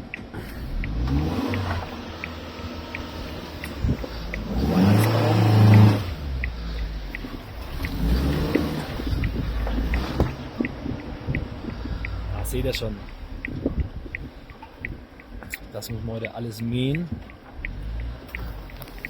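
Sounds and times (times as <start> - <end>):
turn signal ticking: 0.0 - 19.0
vehicle engine running: 0.0 - 19.0.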